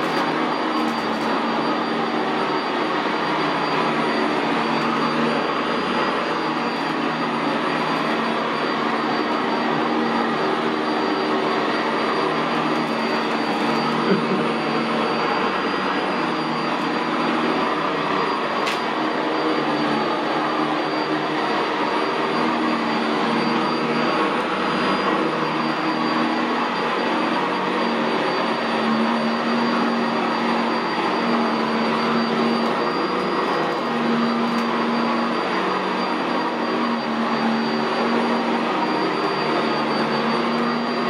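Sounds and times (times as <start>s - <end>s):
vacuum cleaner running on carpet: 0.0s - 41.0s.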